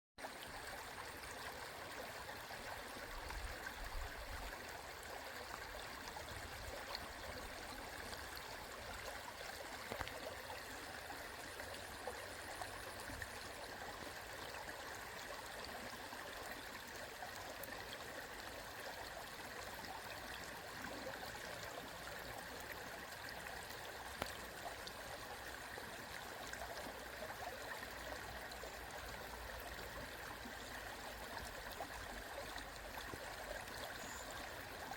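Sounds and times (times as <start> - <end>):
stream flowing over rocks: 0.2 - 34.9.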